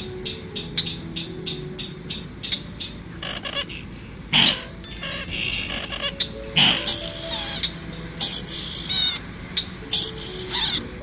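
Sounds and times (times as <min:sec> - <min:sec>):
rail calling with harsh notes: 0:00.0 - 0:11.0.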